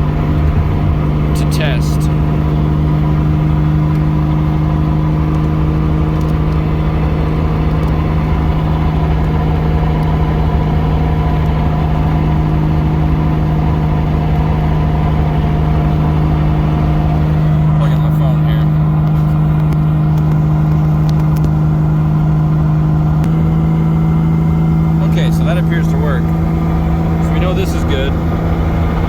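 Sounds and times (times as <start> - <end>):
car engine and road drone: 0.0 - 29.0.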